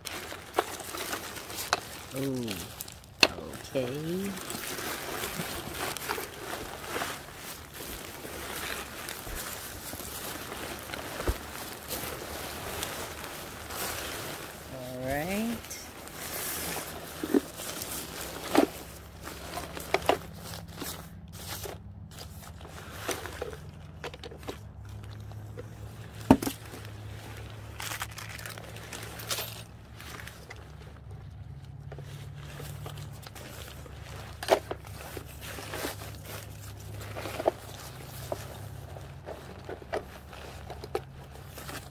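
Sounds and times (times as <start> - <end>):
nylon fabric rustling: 0.0 - 41.9
plastic packaging crinkling: 0.0 - 41.9.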